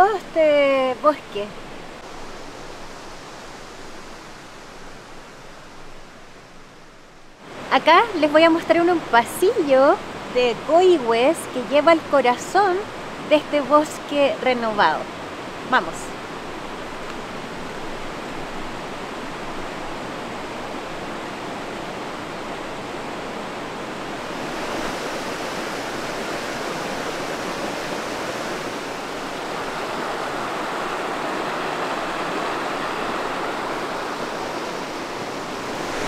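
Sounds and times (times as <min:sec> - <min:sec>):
creek water rushing: 0:00.0 - 0:36.0.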